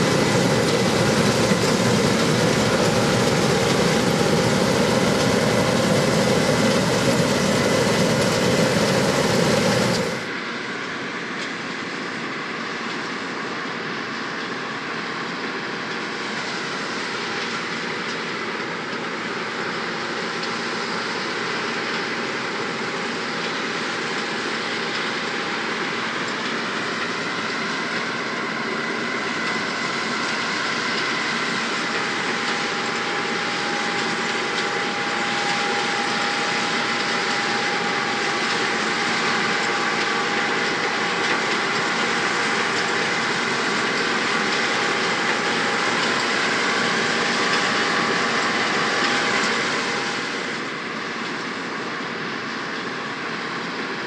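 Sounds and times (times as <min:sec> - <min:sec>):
combine harvester running: 0:00.0 - 0:54.0
constant high whine: 0:00.0 - 0:54.0.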